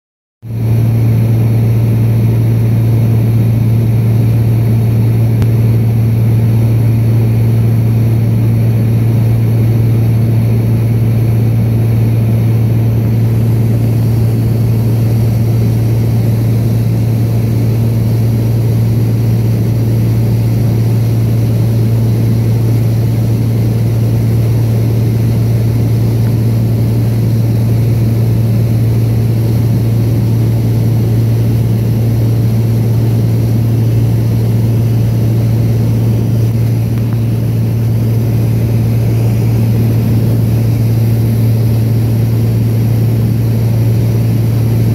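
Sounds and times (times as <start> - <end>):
airplane engine and propeller drone: 0.4 - 44.9.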